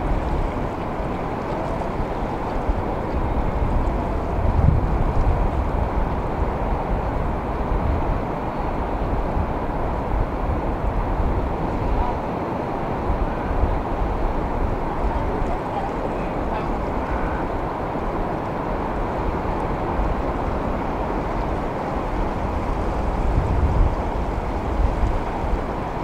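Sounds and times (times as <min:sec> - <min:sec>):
ocean surf washing: 0:00.0 - 0:26.0.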